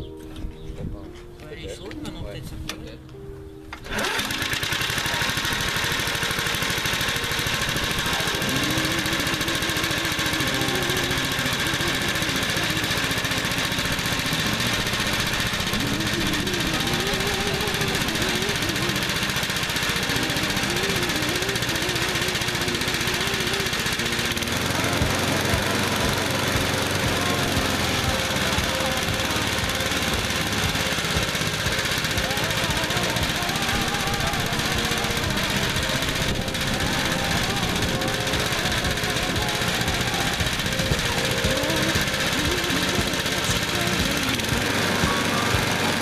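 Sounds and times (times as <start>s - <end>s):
lawn tractor engine running: 0.0s - 0.6s, 1.8s - 46.0s.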